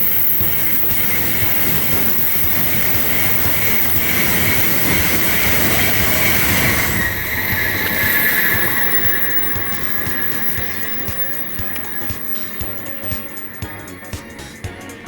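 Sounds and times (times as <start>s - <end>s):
bullet train passing at speed: 0.0s - 15.0s
faint high whine: 0.0s - 15.0s.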